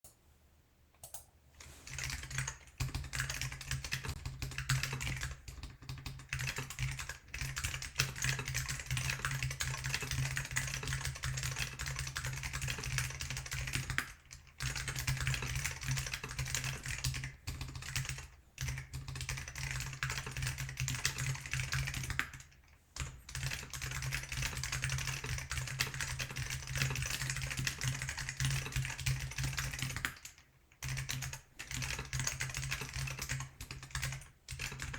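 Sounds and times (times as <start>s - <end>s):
fast mechanical keyboard typing: 1.8s - 34.9s.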